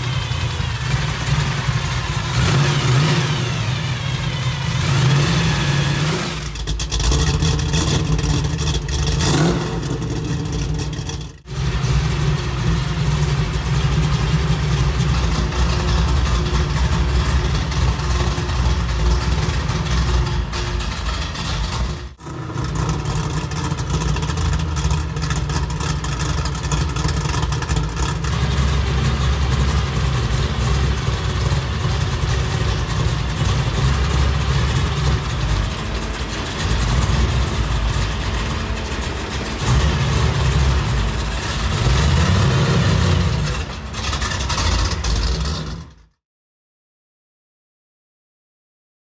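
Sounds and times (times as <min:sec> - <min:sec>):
car engine idling and revving: 0:00.0 - 0:46.1.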